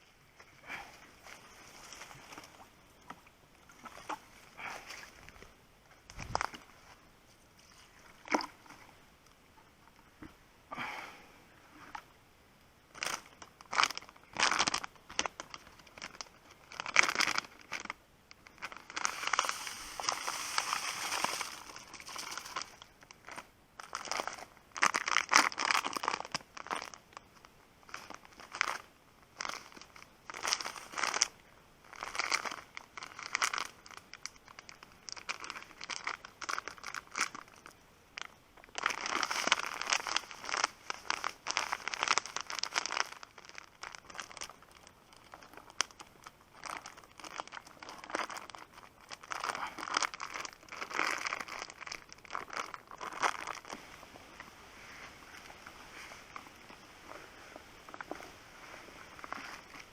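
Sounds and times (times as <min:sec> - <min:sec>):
rustling and crinkling: 0:00.0 - 0:10.4, 0:12.9 - 0:59.9.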